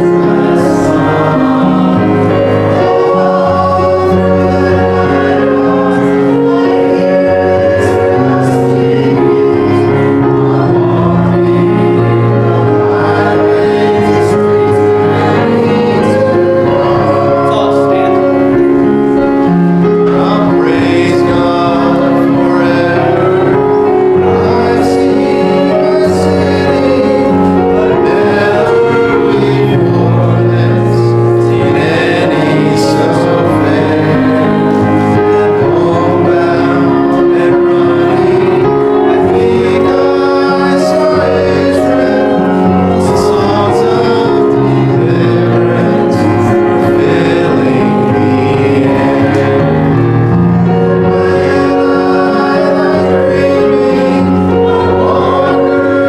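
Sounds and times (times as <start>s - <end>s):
congregation singing a hymn: 0.0s - 56.0s
instrumental accompaniment: 0.0s - 56.0s.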